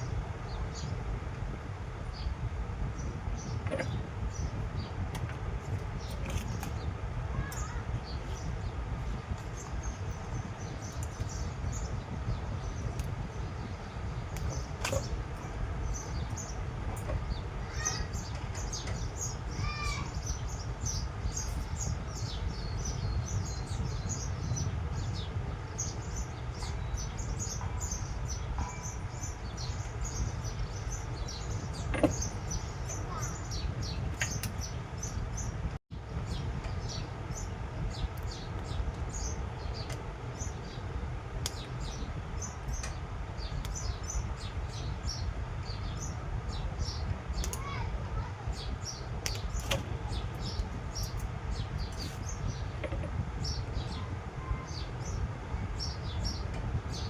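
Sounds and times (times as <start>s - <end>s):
small birds chirping: 0.0s - 57.0s
steady low rumble: 0.0s - 57.0s.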